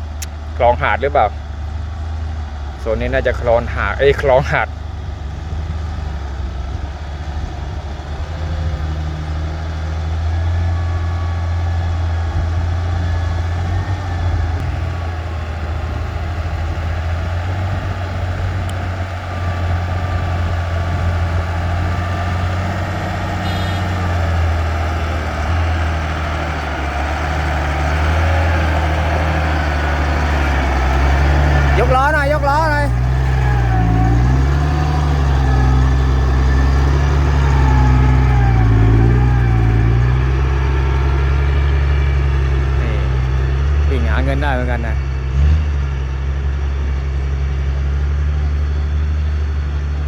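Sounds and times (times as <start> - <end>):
truck diesel engine under load: 0.0 - 50.0.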